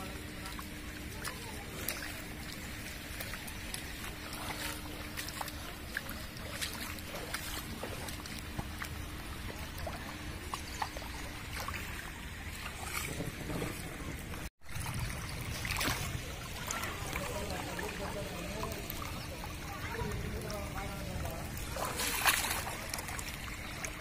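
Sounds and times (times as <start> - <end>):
floodwater running: 0.0 - 24.0
small splashes and trickles: 0.0 - 24.0.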